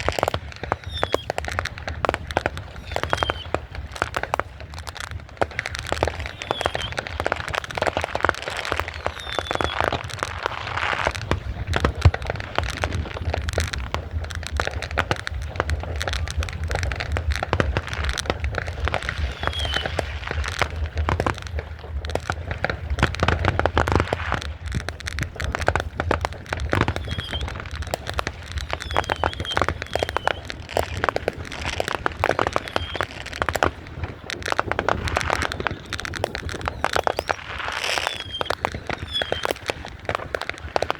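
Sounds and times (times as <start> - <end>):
firecrackers cracking and popping: 0.0 - 40.9
fireworks falling whistles: 0.0 - 40.9.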